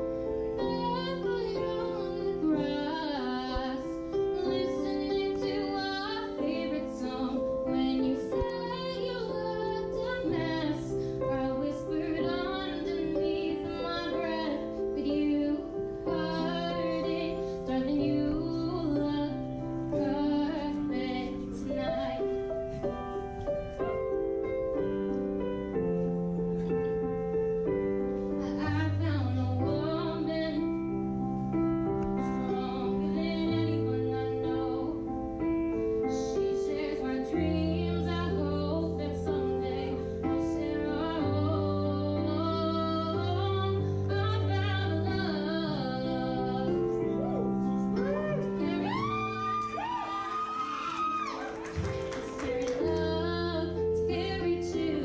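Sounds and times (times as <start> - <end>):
girl singing slow song: 0.0 - 25.0, 28.2 - 55.0
keyboard accompaniment: 0.0 - 55.0.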